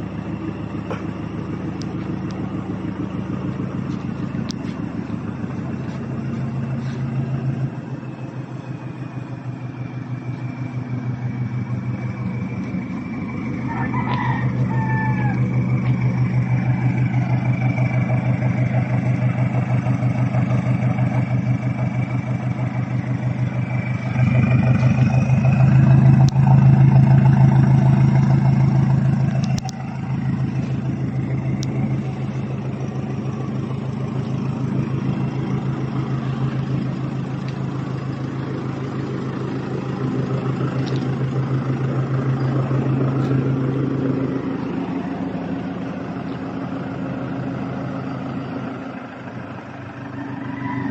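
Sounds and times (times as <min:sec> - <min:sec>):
diesel engine pulsing exhaust: 0:00.0 - 0:50.9.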